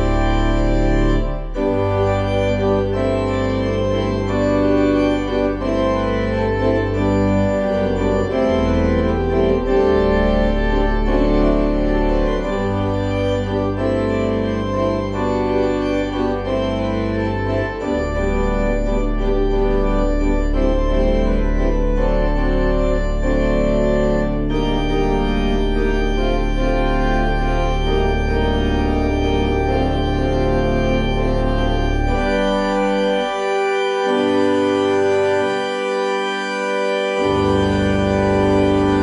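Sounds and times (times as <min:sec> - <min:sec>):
organ playing sustained chords: 0:00.0 - 0:39.0.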